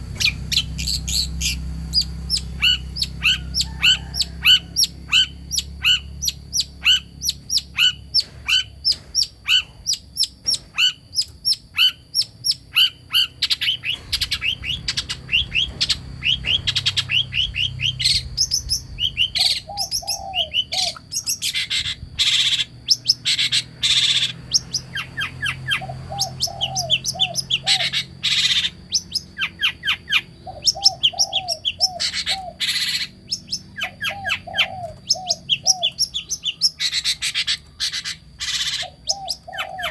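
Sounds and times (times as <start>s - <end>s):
harsh rasping bird calls: 0.0s - 39.9s
low warbling bird phrases: 0.0s - 39.9s
bird singing sharp chirps: 0.2s - 39.9s.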